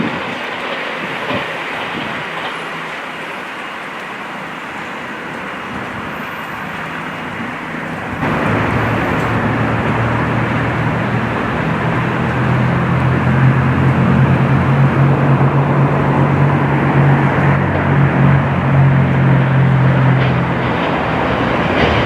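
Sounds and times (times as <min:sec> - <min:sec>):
train humming and rumbling: 0:00.0 - 0:22.0.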